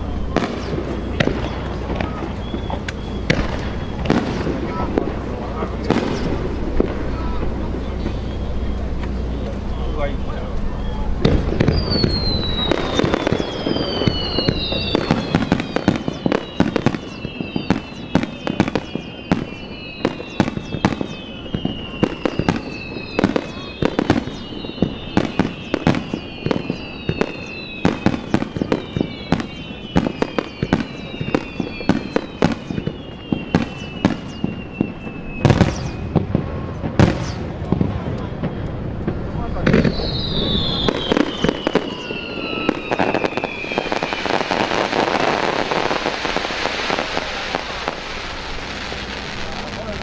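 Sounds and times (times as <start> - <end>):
fireworks bangs and crackles: 0.0 - 50.0
fireworks whistles falling in pitch: 0.0 - 50.0.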